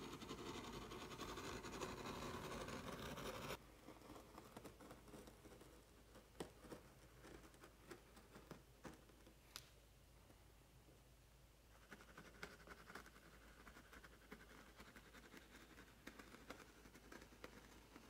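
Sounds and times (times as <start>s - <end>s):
faint scratching and rubbing: 0.0s - 9.4s, 11.7s - 18.0s.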